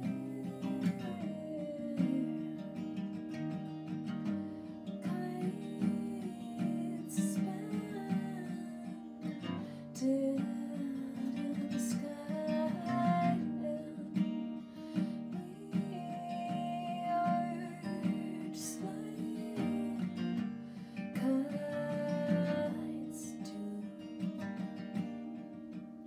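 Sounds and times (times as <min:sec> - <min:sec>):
woman singing: 0:00.0 - 0:25.5
acoustic guitar strumming: 0:00.0 - 0:26.0.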